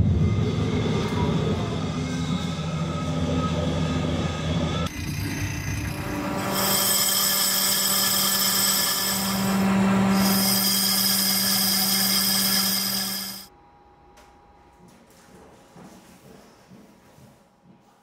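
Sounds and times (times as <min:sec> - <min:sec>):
machine humming and whining: 0:00.0 - 0:14.6.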